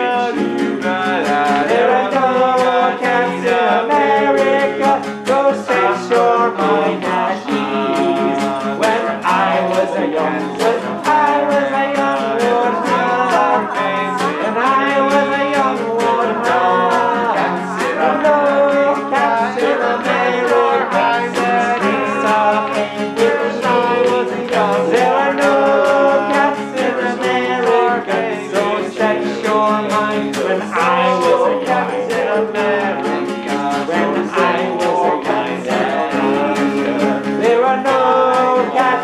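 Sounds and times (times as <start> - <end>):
acoustic guitar strumming: 0.0 - 39.0
person singing: 0.0 - 39.0.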